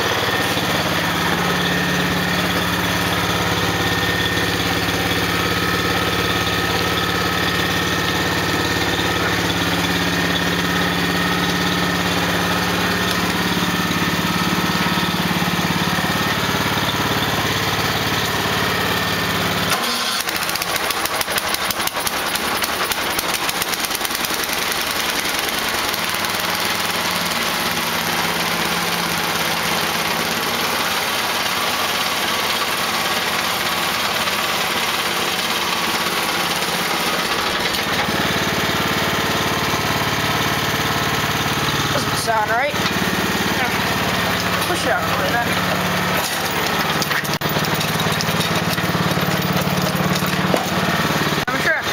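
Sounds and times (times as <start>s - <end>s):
higher-pitched engine ticking: 0.0s - 51.9s
small engine idling: 0.0s - 51.9s.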